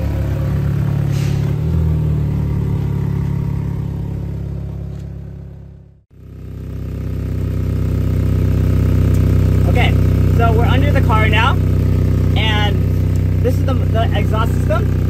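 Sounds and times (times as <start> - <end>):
car engine with loud exhaust: 0.0 - 15.0.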